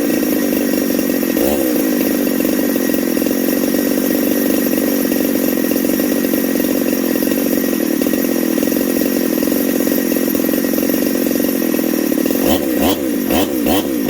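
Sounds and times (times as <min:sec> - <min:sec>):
chainsaw engine running steadily: 0:00.0 - 0:14.0.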